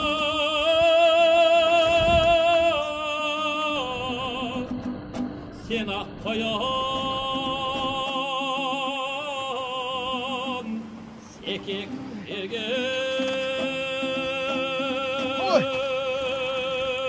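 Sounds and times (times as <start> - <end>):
person singing with vibrato: 0.0 - 4.9, 5.6 - 17.0.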